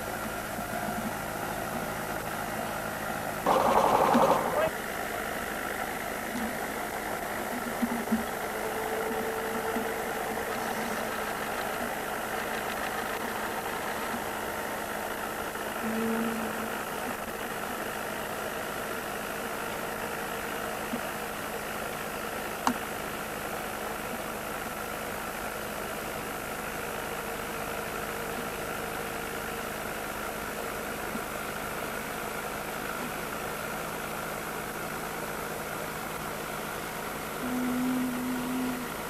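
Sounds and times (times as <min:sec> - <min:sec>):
steady mechanical hum: 0:00.0 - 0:39.0.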